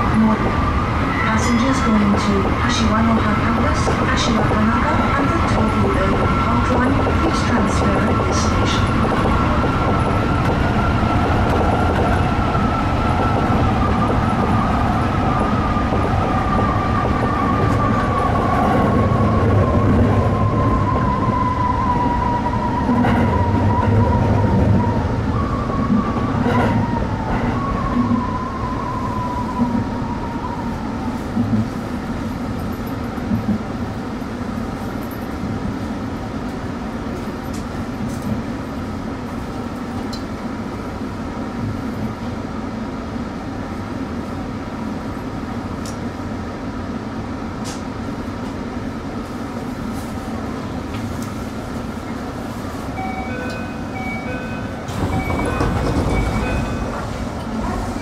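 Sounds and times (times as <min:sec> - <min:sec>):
train wheels and motors rumbling: 0:00.0 - 0:58.0.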